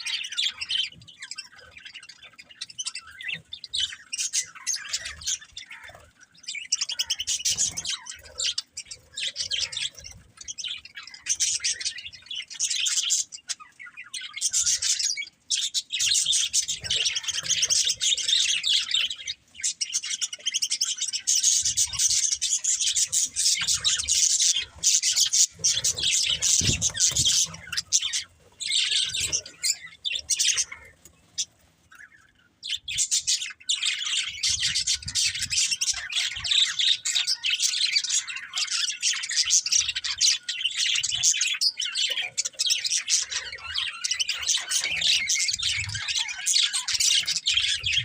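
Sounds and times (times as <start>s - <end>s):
budgerigars chirping: 0.0s - 48.0s.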